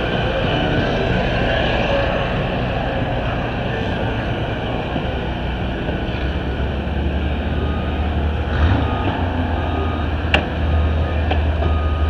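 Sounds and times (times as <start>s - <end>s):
reversing alarm beeping: 0.0s - 12.0s
vehicle engine humming: 0.0s - 12.0s.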